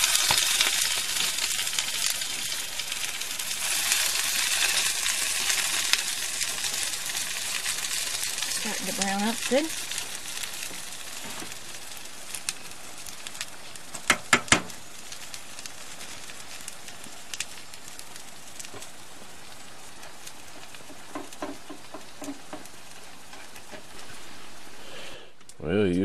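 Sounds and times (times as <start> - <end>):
food sizzling in skillets: 0.0 - 25.4.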